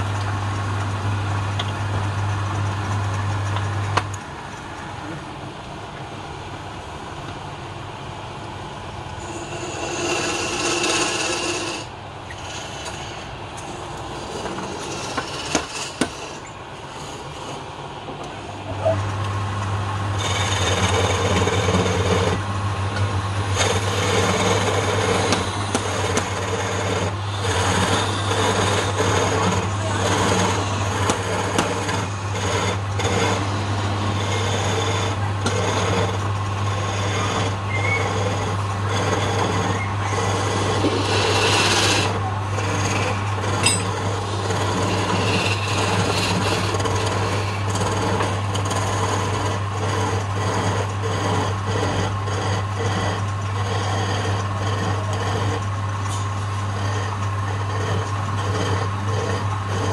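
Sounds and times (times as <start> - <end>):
lathe motor hum: 0.0 - 6.1, 8.0 - 59.9
chisel scraping spinning wood: 9.2 - 59.9.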